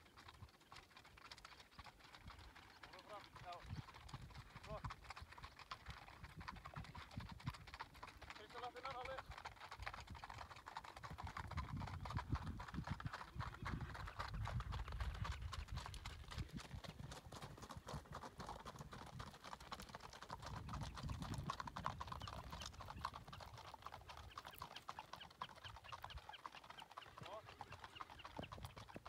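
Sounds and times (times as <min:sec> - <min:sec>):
horse hooves on gravel: 0:00.0 - 0:29.0.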